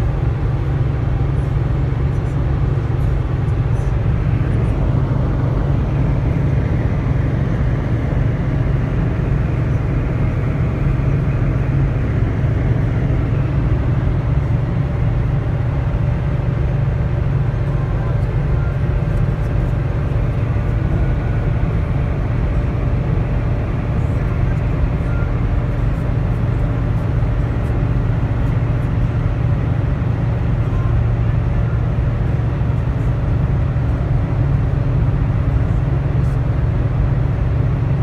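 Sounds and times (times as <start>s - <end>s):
engine and tyre rumble: 0.0s - 38.0s.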